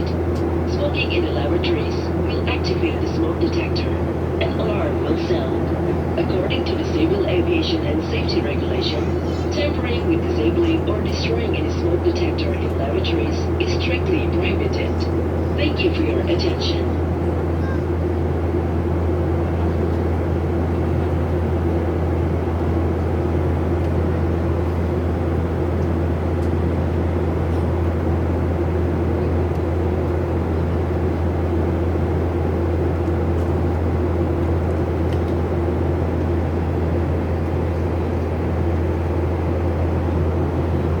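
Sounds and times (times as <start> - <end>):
airliner cabin drone: 0.0 - 41.0.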